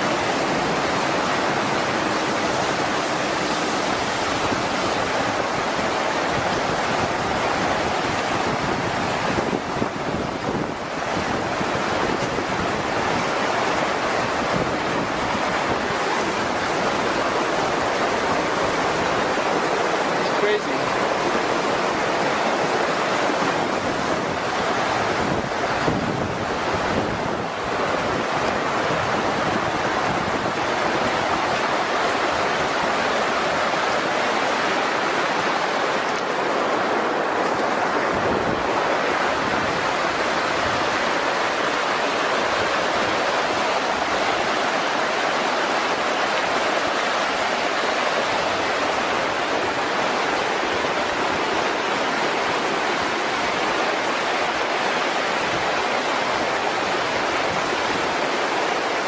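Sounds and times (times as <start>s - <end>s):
rushing floodwater: 0.0s - 59.0s.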